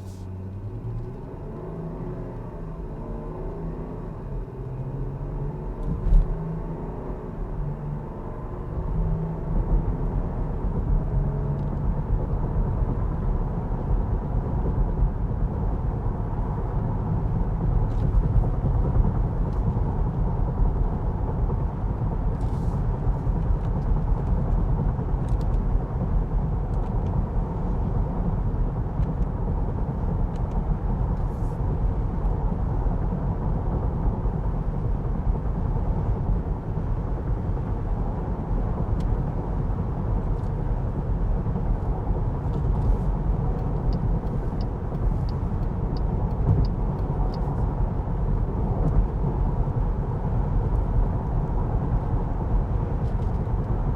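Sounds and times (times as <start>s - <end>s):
tyre and road noise in car cabin: 0.0s - 53.9s.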